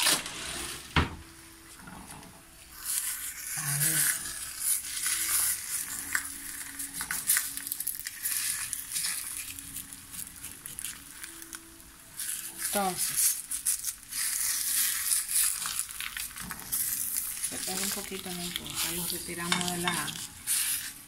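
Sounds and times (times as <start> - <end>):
eggs sizzling in a frying pan: 1.5 - 21.0
spatula scraping a pan: 1.8 - 11.0, 12.1 - 21.0.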